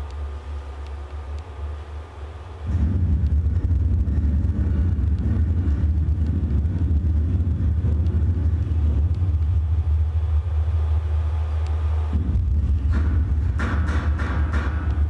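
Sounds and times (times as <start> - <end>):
deep rumble with low hum: 0.0 - 15.0.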